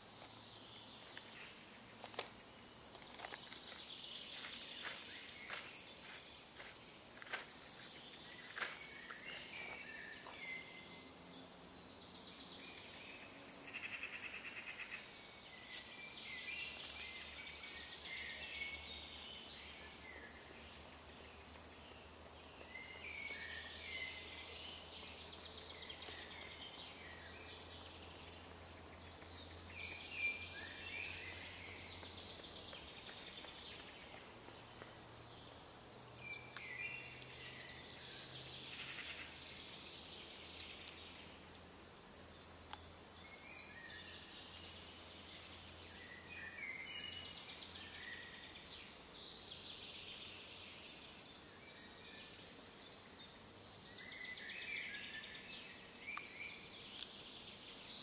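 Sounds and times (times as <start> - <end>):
songbirds chirping faintly: 0.0 - 58.0.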